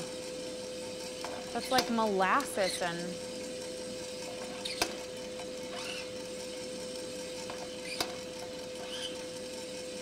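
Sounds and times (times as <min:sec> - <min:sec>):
coffee roaster humming: 0:00.0 - 0:10.0.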